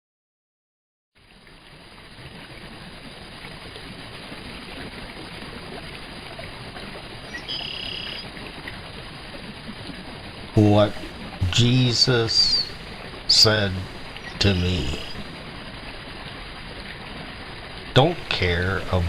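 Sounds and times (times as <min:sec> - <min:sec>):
river water rushing: 0:03.6 - 0:19.0.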